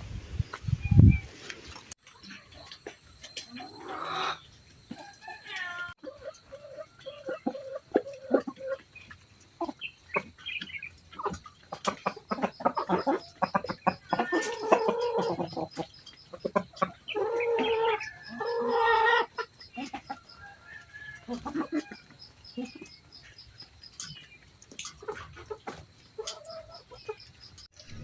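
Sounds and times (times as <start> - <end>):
chickens clucking: 0.4 - 28.0
chicken drawn-out calls: 1.7 - 28.0.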